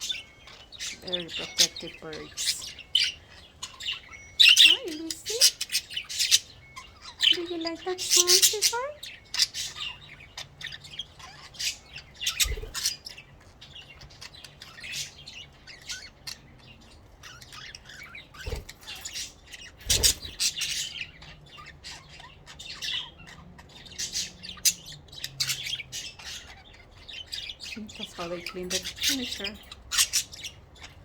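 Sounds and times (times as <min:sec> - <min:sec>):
budgerigars chirping and squawking: 0:00.0 - 0:31.0.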